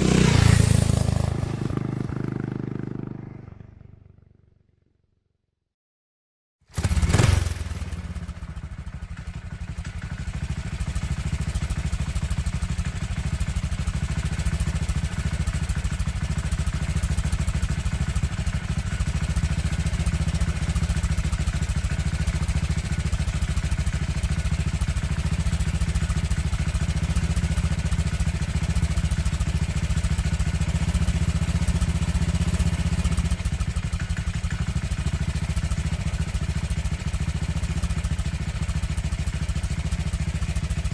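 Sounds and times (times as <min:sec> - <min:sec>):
motorcycle engine starting and idling: 0:00.0 - 0:04.9, 0:06.7 - 0:40.9.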